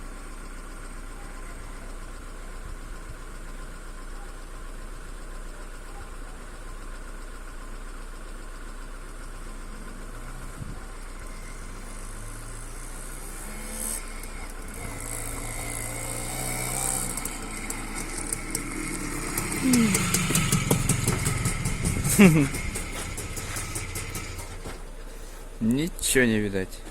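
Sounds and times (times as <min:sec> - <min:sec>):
motorcycle engine running: 0:00.0 - 0:26.1.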